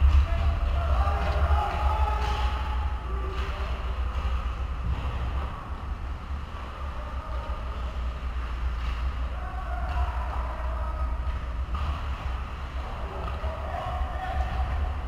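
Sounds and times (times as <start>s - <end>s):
low rumble of ice rink: 0.0s - 15.0s.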